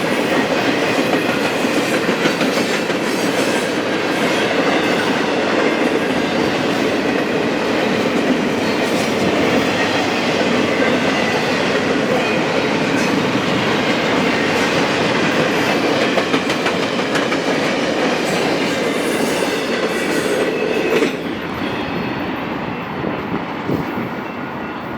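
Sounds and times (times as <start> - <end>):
train wheels clacking on rails: 0.0 - 24.9.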